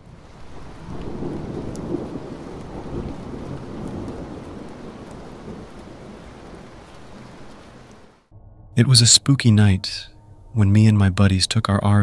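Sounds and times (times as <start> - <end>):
rain falling: 0.0 - 10.8
thunder rumbling: 0.0 - 11.2.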